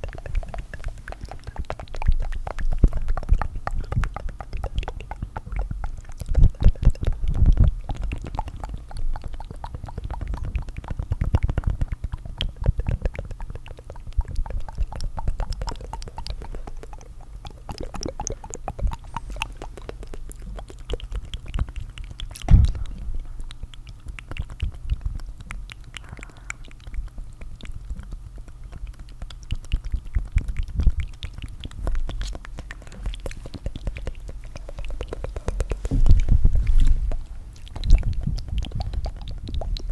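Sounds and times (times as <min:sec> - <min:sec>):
tongue fluttering mouth clicks: 0:00.0 - 0:39.9.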